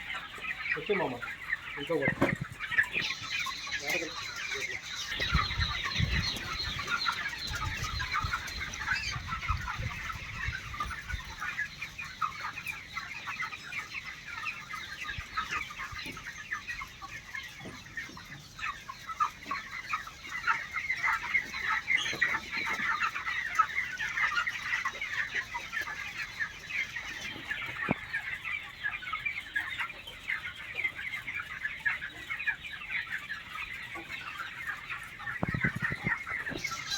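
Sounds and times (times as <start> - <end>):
chickens clucking: 0.0 - 36.9.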